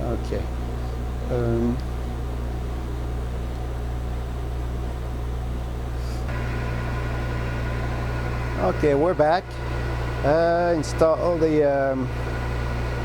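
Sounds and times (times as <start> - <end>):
high steady whine: 0.0 - 13.0
low hum: 0.0 - 13.0.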